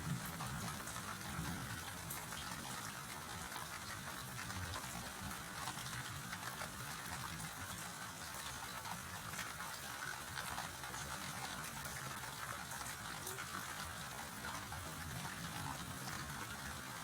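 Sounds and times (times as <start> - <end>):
steady rain pattering: 0.0 - 17.0.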